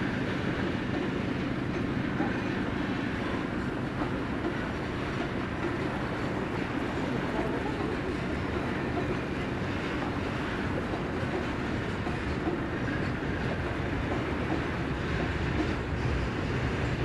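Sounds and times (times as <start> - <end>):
diesel locomotive engine hum: 0.0 - 17.0
rail noise: 0.0 - 17.0.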